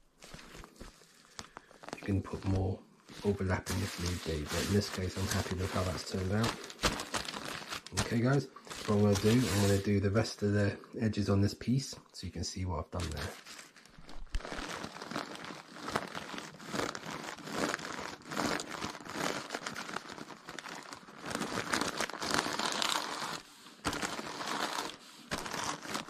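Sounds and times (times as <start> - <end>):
paper and tarp crinkling under iron: 0.2 - 10.1, 12.9 - 26.0.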